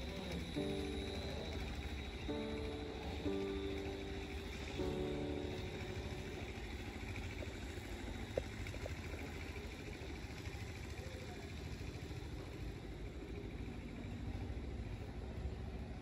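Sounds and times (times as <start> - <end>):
low rumble of vehicle: 0.0 - 16.0.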